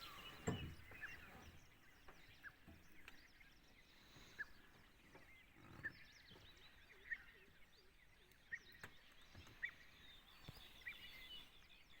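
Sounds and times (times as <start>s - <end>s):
birds twittering: 0.0s - 12.0s.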